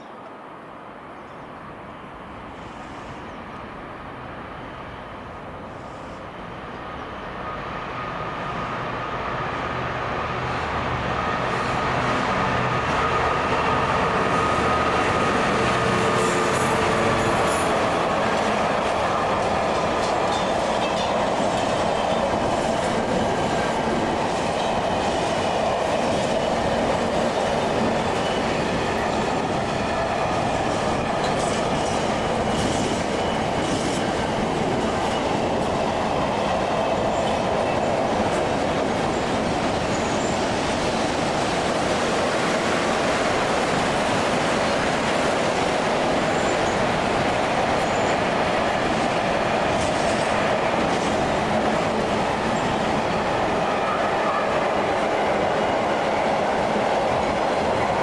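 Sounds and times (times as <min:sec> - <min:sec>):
train wheels rumbling on rail: 0:01.3 - 0:58.0.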